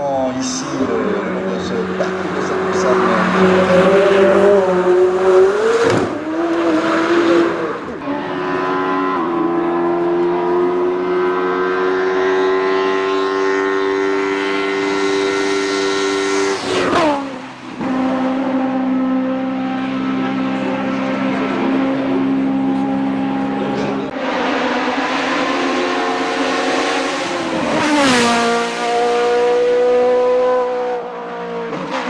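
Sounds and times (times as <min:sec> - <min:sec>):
racing car engine at full throttle: 0:00.0 - 0:32.0.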